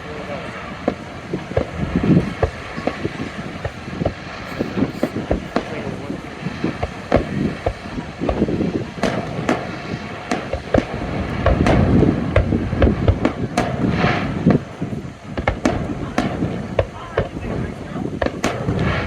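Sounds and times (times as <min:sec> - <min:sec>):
fireworks bangs and crackles: 0:00.0 - 0:19.0
low rumble: 0:00.0 - 0:19.0.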